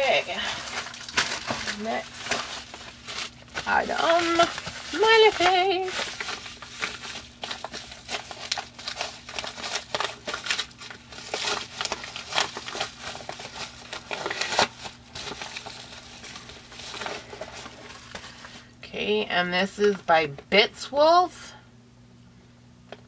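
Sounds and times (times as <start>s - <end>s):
paper mailer crinkling: 0.0s - 18.7s.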